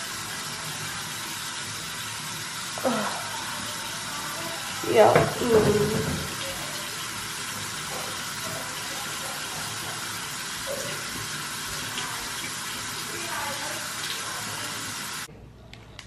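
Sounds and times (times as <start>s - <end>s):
sink tap running: 0.0s - 15.3s.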